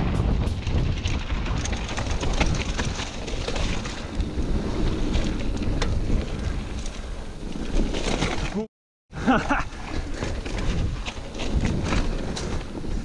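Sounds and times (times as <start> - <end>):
wind buffeting microphone: 0.0 - 8.3, 9.2 - 13.0
bike rattling over bumps: 0.0 - 13.0
tyres rumbling on dirt trail: 0.0 - 13.0.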